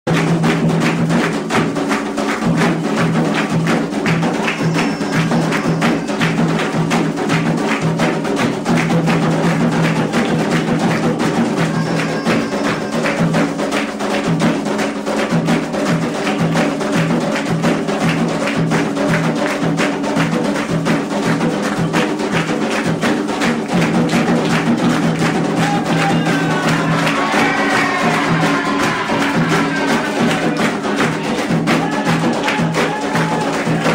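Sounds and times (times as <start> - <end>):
hand drums playing fast rhythm: 0.1 - 33.9
struck percussion: 0.1 - 33.9.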